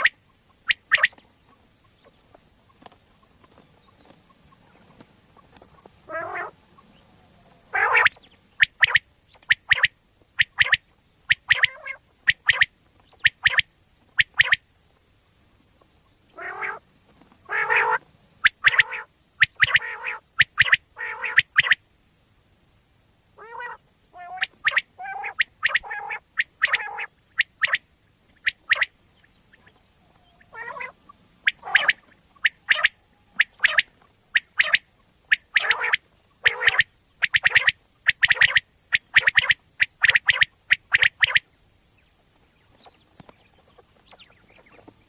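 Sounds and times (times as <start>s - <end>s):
quail calling: 0.0s - 14.7s, 15.8s - 21.8s, 23.4s - 45.0s.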